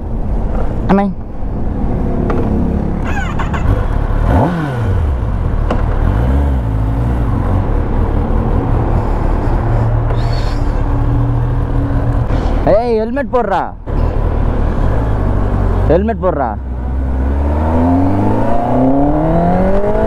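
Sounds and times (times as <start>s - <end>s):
vehicle engines running: 0.0s - 20.0s.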